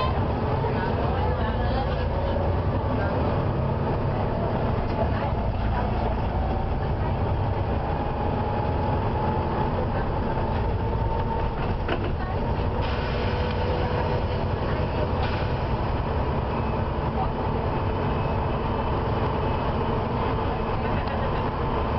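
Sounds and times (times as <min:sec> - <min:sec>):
bus diesel engine running: 0:00.0 - 0:21.9.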